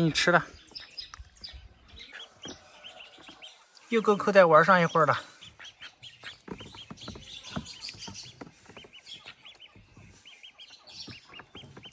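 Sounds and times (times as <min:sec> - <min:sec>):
ducks peeping: 0:00.0 - 0:11.9.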